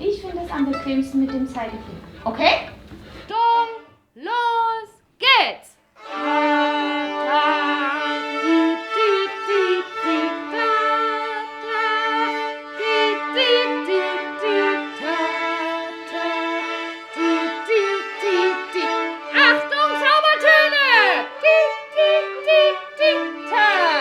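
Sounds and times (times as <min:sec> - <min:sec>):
violins playing held notes: 0:00.0 - 0:03.3, 0:06.0 - 0:24.0.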